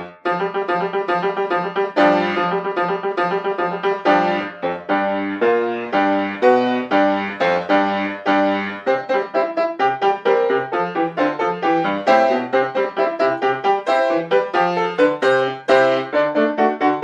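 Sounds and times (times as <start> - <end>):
solo piano dance passage: 0.0 - 17.0.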